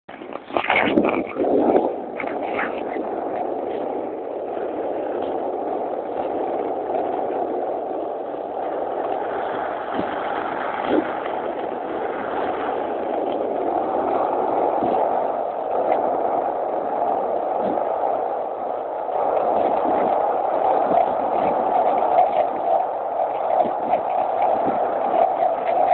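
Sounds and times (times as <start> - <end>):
skateboard wheels rumbling on asphalt: 0.1 - 25.9.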